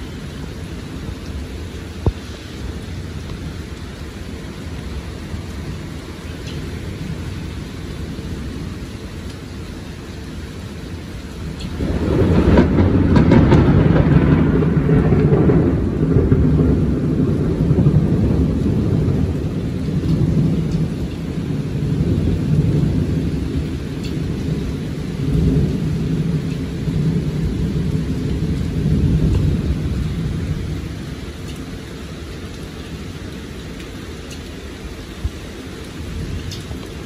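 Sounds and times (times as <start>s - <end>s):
thunder crackling and rumbling: 0.0s - 37.0s.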